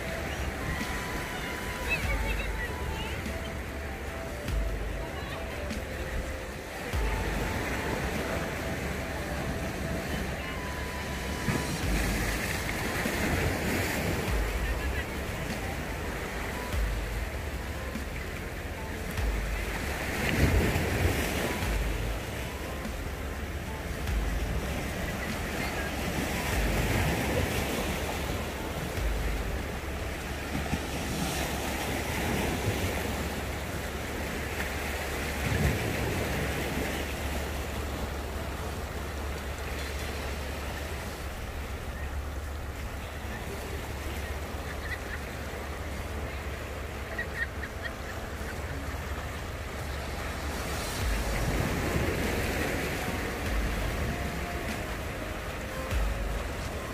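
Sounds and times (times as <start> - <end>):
waves splashing over rocks: 0.0 - 56.9.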